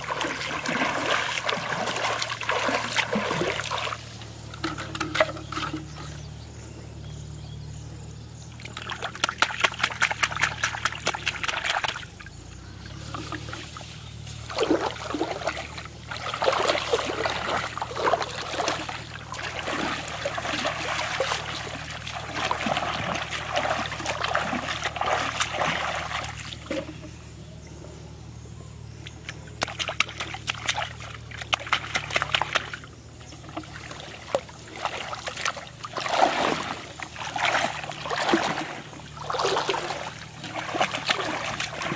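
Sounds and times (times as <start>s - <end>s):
water trickling: 0.0s - 6.4s, 8.4s - 27.2s, 29.0s - 41.9s
water splashing and sloshing: 0.0s - 6.8s, 8.4s - 27.4s, 28.9s - 41.9s.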